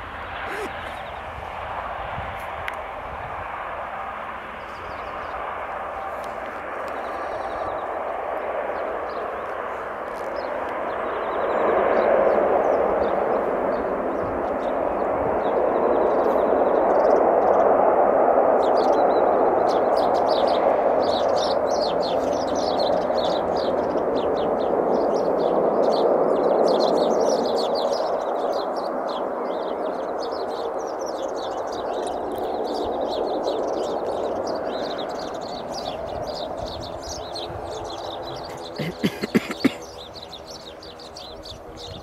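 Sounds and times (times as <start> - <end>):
small birds chirping: 0.0 - 1.6, 4.4 - 17.8, 18.6 - 42.0
turboprop engines running: 0.0 - 42.0.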